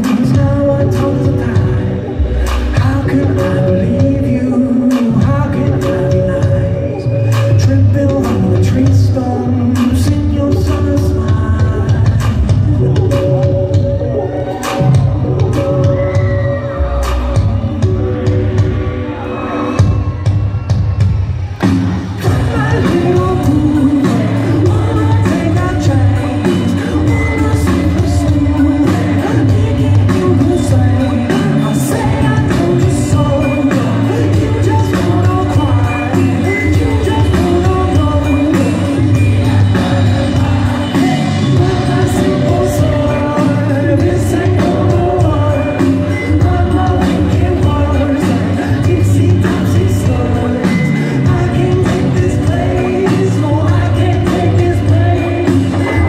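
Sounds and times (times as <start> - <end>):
drums: 0.0 - 56.0
keyboards: 0.0 - 56.0
live band playing indie pop: 0.0 - 56.0
person singing lead vocal: 0.0 - 56.0
steady bass line: 0.0 - 56.0.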